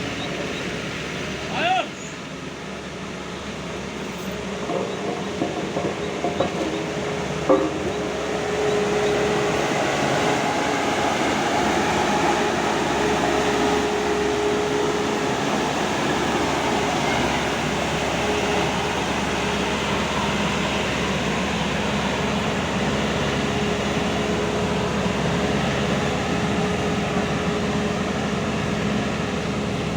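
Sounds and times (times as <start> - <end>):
diesel engine droning: 0.0 - 29.9.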